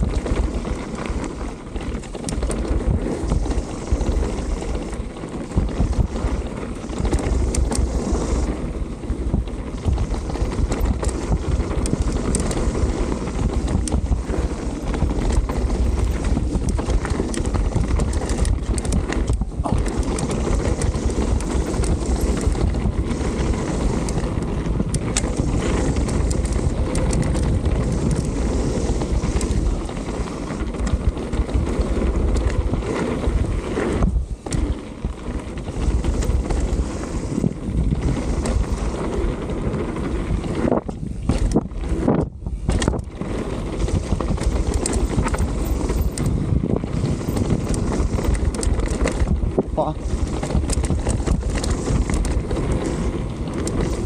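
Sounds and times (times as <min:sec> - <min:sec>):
bike knocks and rattles: 0:00.0 - 0:54.0
bike tyres rumbling on dirt: 0:00.0 - 0:54.0
wind buffeting microphone: 0:00.0 - 0:54.0.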